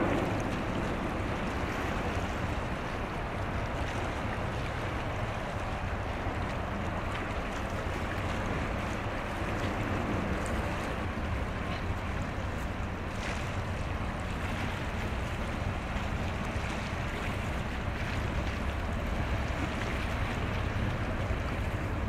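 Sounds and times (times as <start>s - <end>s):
ship engine low rumble: 0.0s - 22.0s
wind: 0.0s - 22.0s.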